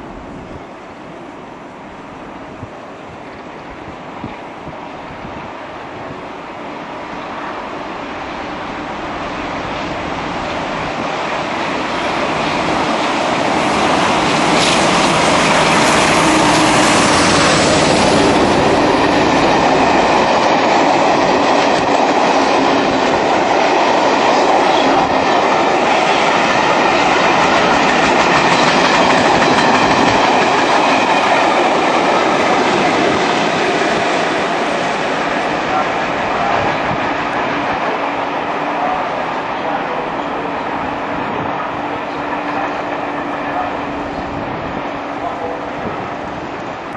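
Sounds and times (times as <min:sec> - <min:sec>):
diesel train passing at speed: 0:00.0 - 0:46.9.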